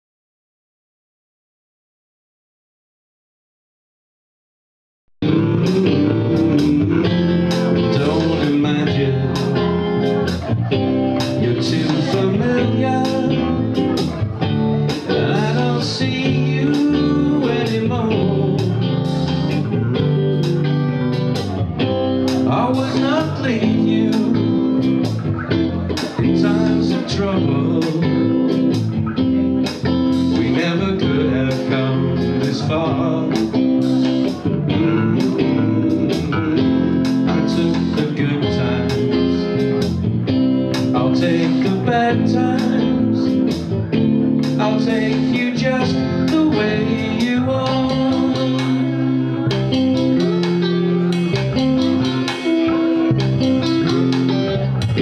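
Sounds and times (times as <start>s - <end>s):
man singing into a microphone: 5.2s - 21.6s, 22.3s - 55.0s
bass guitar: 5.2s - 55.0s
electric guitar: 5.2s - 55.0s.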